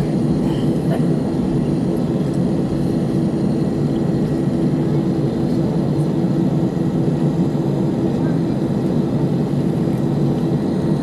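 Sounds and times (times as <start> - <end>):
jet engines droning: 0.0 - 11.0.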